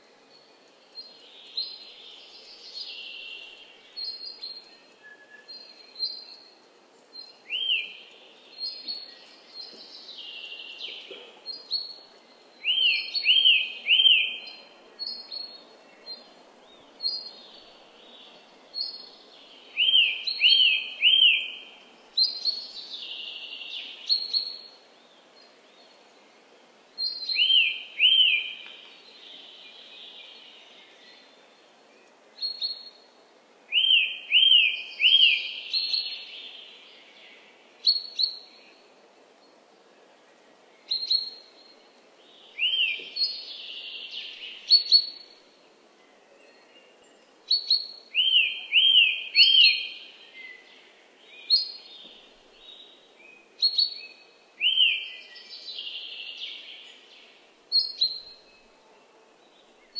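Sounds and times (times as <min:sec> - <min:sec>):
birds chirping and twittering: 0:00.0 - 0:39.6, 0:40.3 - 0:59.9
faint background hiss: 0:00.0 - 0:59.9.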